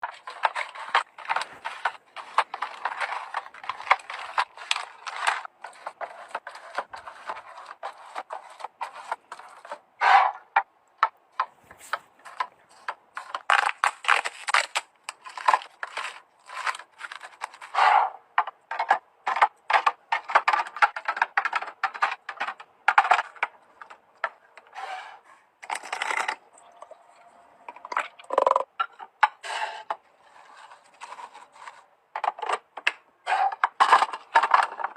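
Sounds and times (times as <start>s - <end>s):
food containers being handled: 0.0s - 34.9s.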